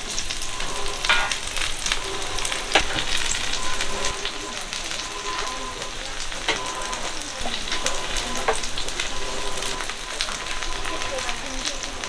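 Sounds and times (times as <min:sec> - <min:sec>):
oil sizzling and crackling: 0:00.0 - 0:12.0.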